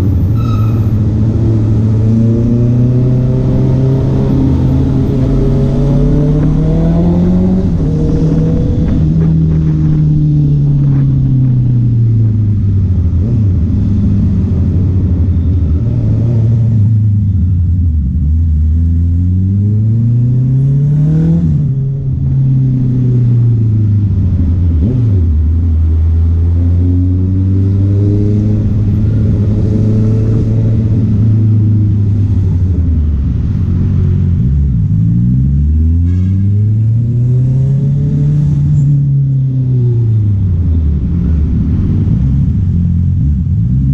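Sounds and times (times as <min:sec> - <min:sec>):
motorcycle engine revving: 0:00.0 - 0:17.4, 0:18.0 - 0:43.9.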